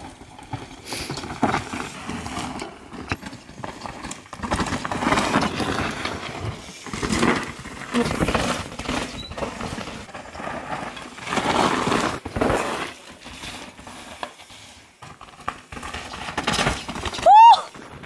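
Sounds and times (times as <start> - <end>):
bike tyres crunching over rocks: 0.0 - 18.0.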